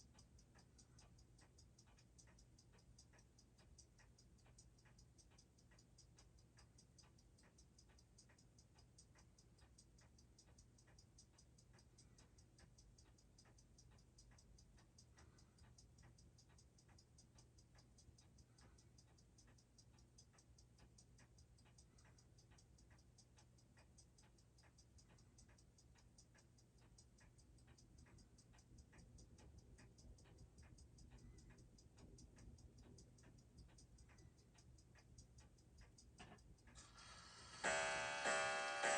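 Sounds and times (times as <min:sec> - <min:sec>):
watch ticking: 0:00.0 - 0:38.9.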